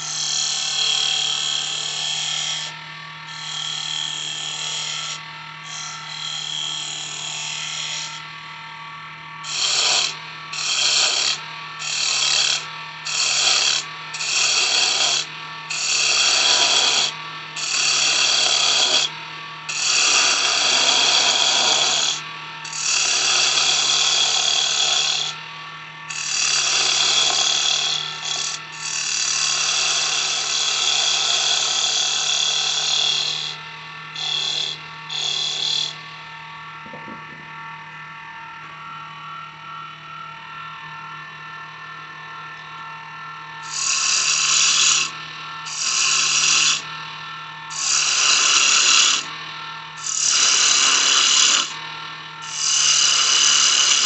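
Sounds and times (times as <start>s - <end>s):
turning tool cutting wood: 0.0s - 36.2s, 43.2s - 54.0s
lathe motor humming: 0.0s - 54.0s.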